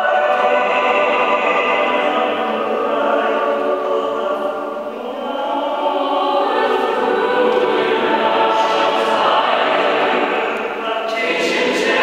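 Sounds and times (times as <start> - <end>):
mixed choir singing chords: 0.0 - 12.0.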